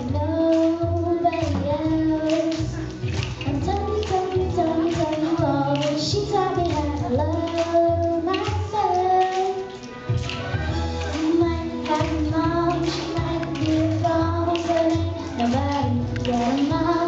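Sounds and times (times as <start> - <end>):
girl singing: 0.0 - 9.9, 11.0 - 17.0
instrumental backing music: 0.0 - 17.0.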